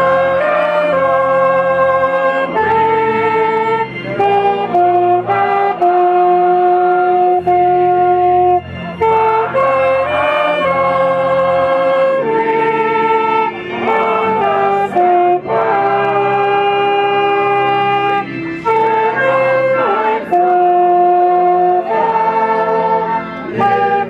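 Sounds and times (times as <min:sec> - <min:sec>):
horns playing melody: 0:00.0 - 0:24.0
steady bass: 0:00.0 - 0:24.0.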